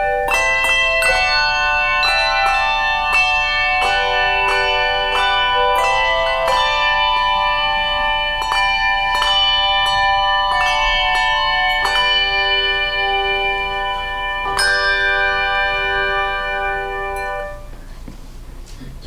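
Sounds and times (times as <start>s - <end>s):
handbell choir playing: 0.0s - 17.8s.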